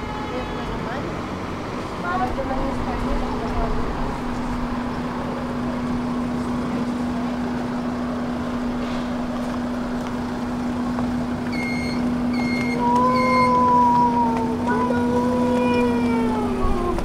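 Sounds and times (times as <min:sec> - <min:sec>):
cars passing: 0:00.0 - 0:17.0
tram electrical hum: 0:00.0 - 0:17.0.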